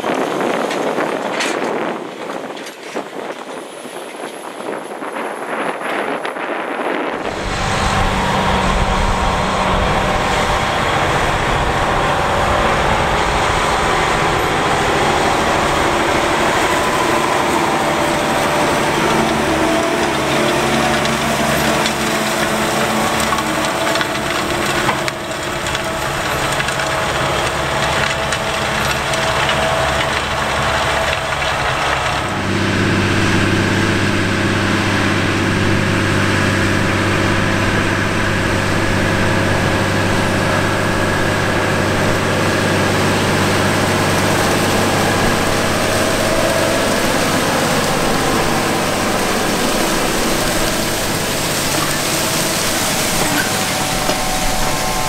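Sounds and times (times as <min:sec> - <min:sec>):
tractor diesel engines under load: 0:00.0 - 0:55.0.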